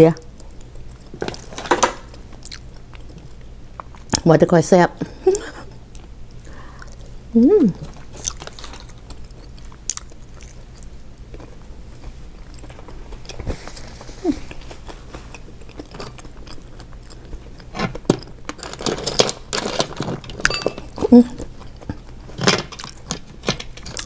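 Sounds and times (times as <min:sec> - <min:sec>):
chewing seafood with crunches: 0:00.3 - 0:04.2, 0:07.8 - 0:24.0.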